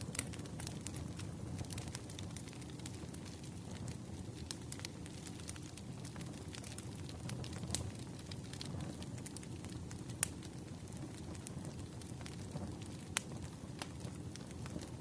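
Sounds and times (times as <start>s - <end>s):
fire crackles and pops: 0.0s - 15.0s
wood fire low rumble: 0.0s - 15.0s.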